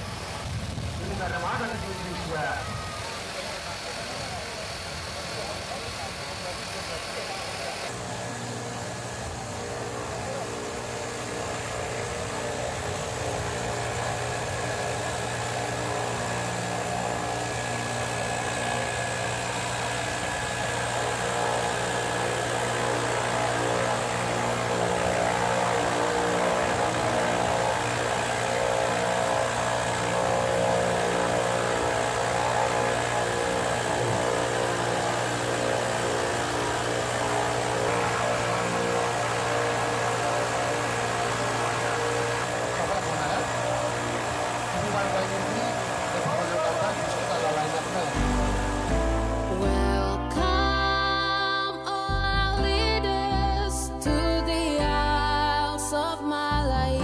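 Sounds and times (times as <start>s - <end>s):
propeller plane engines idling: 0.0s - 57.0s.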